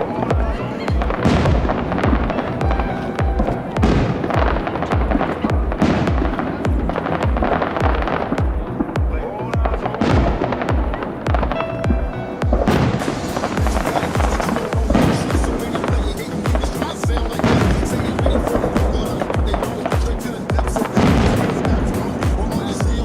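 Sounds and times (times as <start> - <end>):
firework shells booming: 0.0 - 23.0
fireworks crackling: 0.0 - 23.0.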